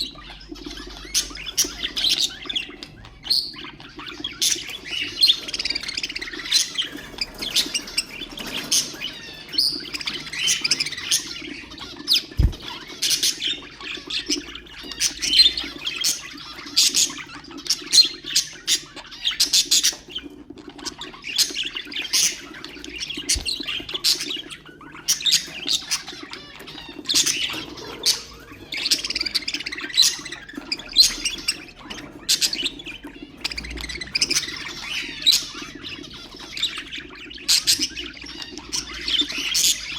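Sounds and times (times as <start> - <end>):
budgerigars chattering and chirping: 0.0 - 39.9
squawky bird calls: 0.0 - 39.9.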